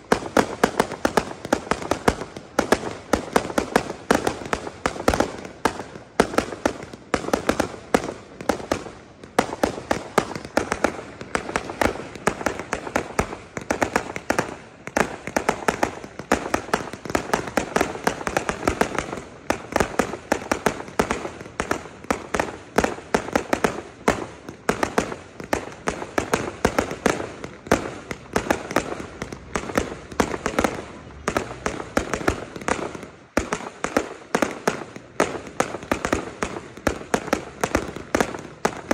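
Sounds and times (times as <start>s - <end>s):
fireworks bangs and pops: 0.0s - 38.9s.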